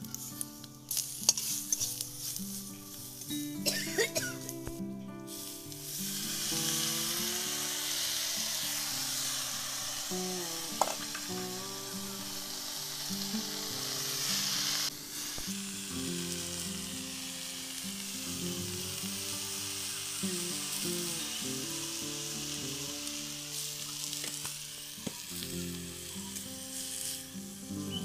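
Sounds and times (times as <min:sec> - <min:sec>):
leaves sizzling in a wok: 0:00.0 - 0:28.0
soft background music: 0:00.0 - 0:28.0.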